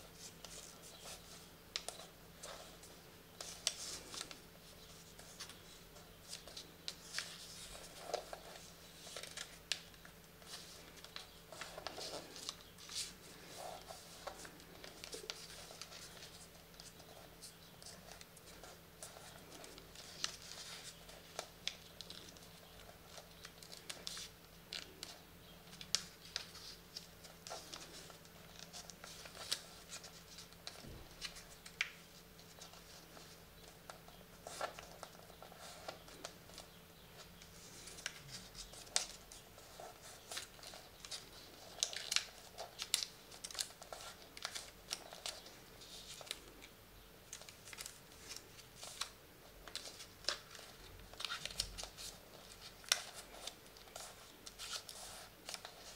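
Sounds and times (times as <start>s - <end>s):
paper being folded: 0.0s - 55.9s.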